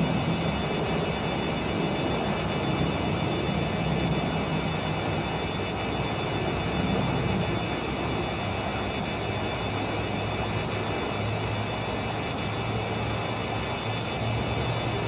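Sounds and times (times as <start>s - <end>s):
distant warplane engines droning: 0.0s - 15.0s.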